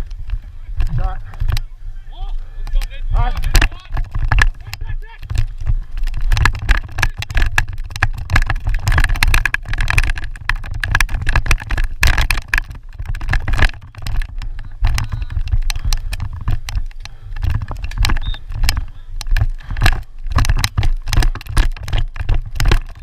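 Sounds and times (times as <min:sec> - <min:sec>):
irregular clicks and knocks: 0:00.0 - 0:01.7, 0:02.6 - 0:23.0
wind buffeting microphone: 0:00.0 - 0:23.0.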